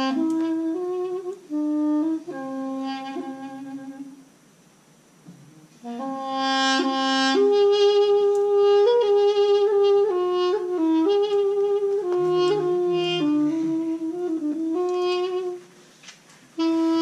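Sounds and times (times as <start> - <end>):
small wind instrument melody: 0.0 - 4.4, 5.8 - 16.0, 16.6 - 17.0.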